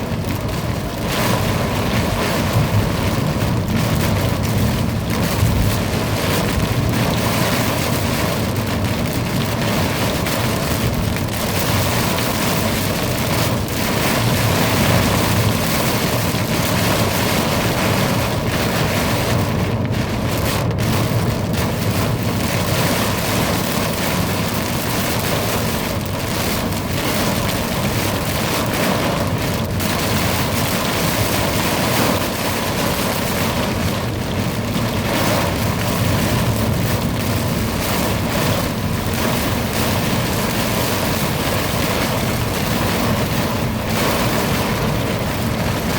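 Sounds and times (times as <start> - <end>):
torrential rain pouring: 0.0 - 45.9.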